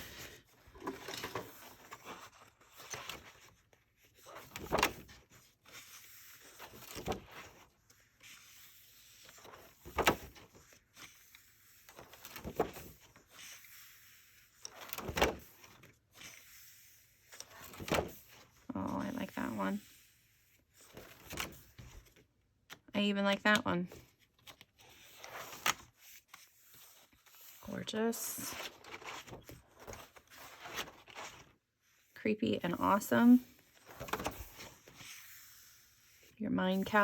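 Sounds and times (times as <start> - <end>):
paper pages turning: 0.0 - 18.6, 19.2 - 22.8, 23.9 - 27.8, 28.4 - 32.2, 32.8 - 37.0.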